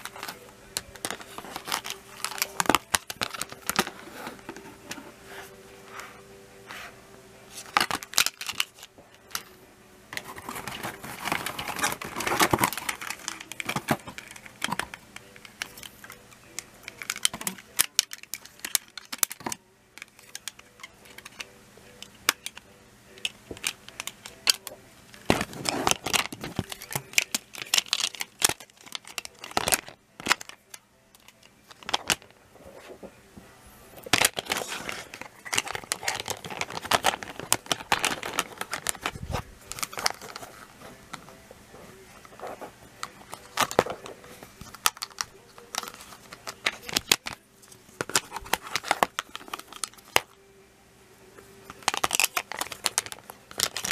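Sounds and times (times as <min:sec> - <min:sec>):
plastic pieces clattering: 0:00.0 - 0:05.1, 0:07.5 - 0:09.5, 0:10.1 - 0:22.6, 0:23.2 - 0:32.3, 0:34.0 - 0:41.2, 0:42.2 - 0:47.4, 0:48.0 - 0:50.4, 0:51.7 - 0:53.9
packaging rustling: 0:00.0 - 0:05.5, 0:07.5 - 0:09.5, 0:10.2 - 0:19.6, 0:23.5 - 0:33.0, 0:34.0 - 0:41.3, 0:41.9 - 0:50.4, 0:51.7 - 0:53.9.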